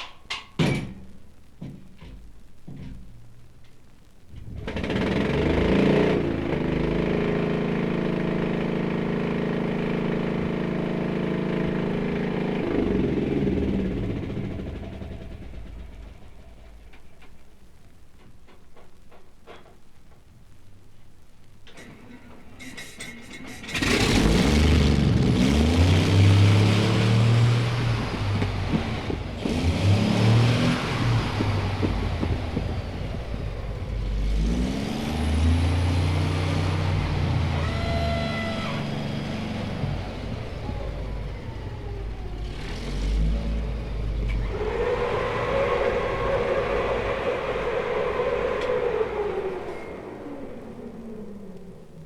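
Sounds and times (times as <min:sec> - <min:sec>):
tank engine revving: 0:04.3 - 0:17.4, 0:21.8 - 0:52.0
steady whine: 0:06.1 - 0:52.0.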